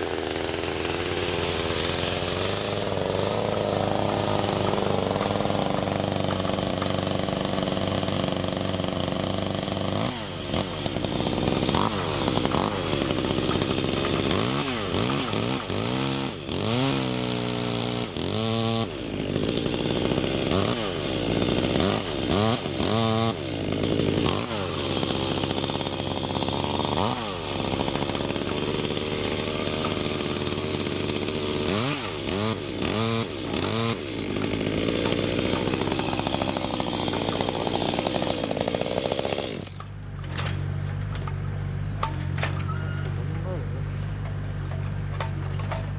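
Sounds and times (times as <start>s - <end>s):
chainsaw revving: 0.0s - 41.2s.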